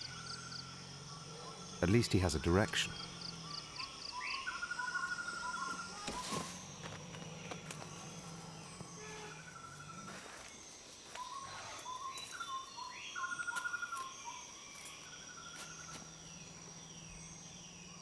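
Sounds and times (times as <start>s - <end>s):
birds calling: 0.0s - 18.0s
high-pitched insect drone: 0.0s - 18.0s.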